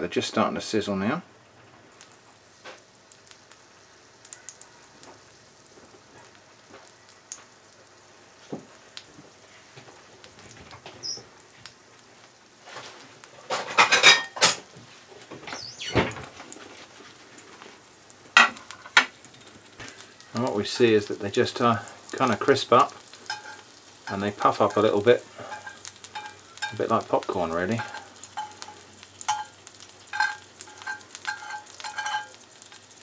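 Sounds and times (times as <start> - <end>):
insects frying in oil: 0.0 - 33.0
oil crackling and spitting: 1.9 - 13.5, 15.0 - 33.0.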